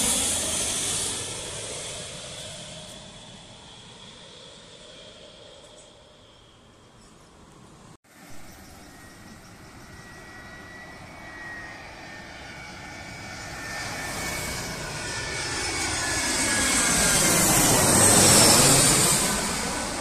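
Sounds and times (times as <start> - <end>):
jet airliner passing overhead: 0.0 - 20.0.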